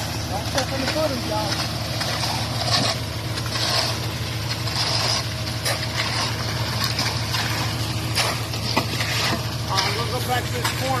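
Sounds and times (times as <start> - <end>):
diesel engine running: 0.0 - 11.0
wet concrete scraping and sloshing: 0.0 - 11.0.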